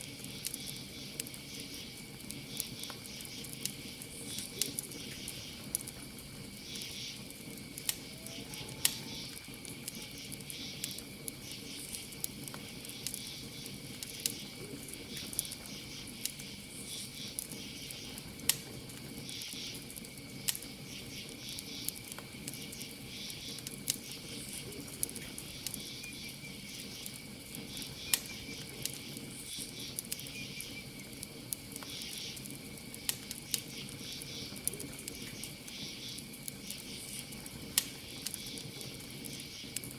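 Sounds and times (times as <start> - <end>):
campfire crackling and popping: 0.0 - 39.9
cricket trill: 0.0 - 39.9
insects chirping in pulses: 0.0 - 39.9.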